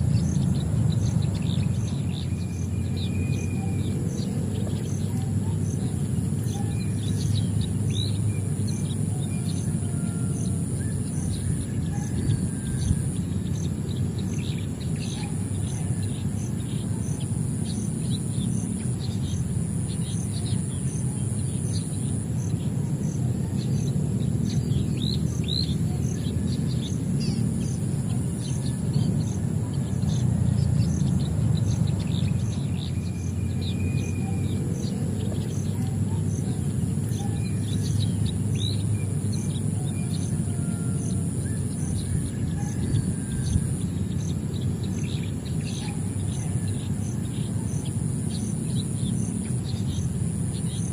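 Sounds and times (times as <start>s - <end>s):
small birds chirping: 0.0s - 50.9s
steady low rumble: 0.0s - 50.9s.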